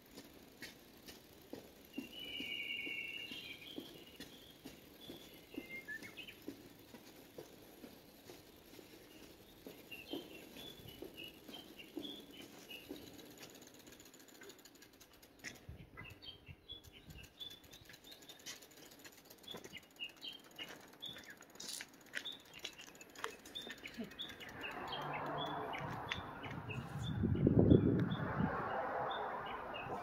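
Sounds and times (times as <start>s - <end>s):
small bird chirping: 1.5s - 28.4s.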